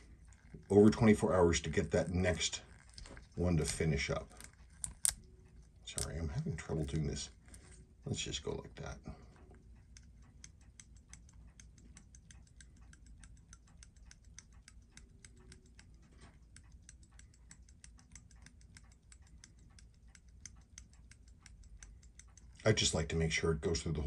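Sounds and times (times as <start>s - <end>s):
watch crown clicking: 0.0s - 24.0s.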